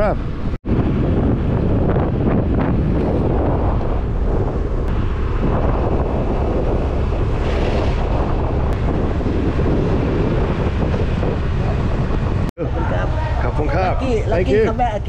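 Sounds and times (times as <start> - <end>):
scooter engine and road noise: 0.0 - 15.0
wind buffeting microphone: 0.0 - 15.0.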